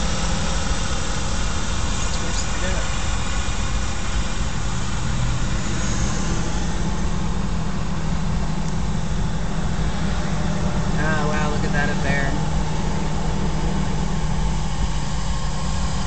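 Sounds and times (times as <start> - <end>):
engine and tyre rumble: 0.0 - 16.0
road hiss: 0.0 - 16.0.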